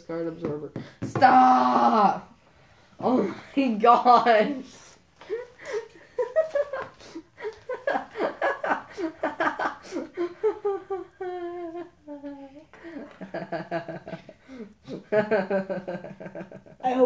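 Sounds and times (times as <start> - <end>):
boys laughing and giggling: 3.0 - 17.0.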